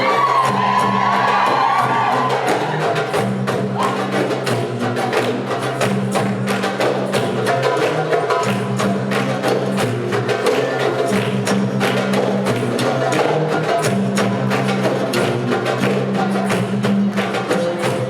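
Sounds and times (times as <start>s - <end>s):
hand drums playing fast rhythm: 0.0s - 18.0s.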